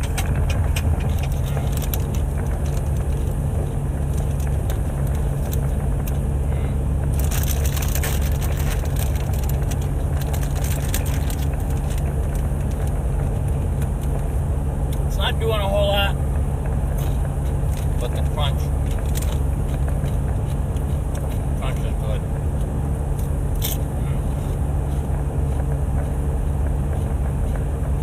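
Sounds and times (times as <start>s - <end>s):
low vehicle hum: 0.0s - 28.0s.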